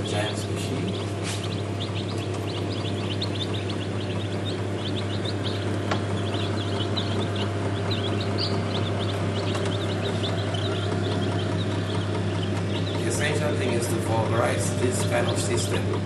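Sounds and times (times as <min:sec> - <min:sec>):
chicks peeping: 0:00.0 - 0:16.0
steady low hum: 0:00.0 - 0:16.0.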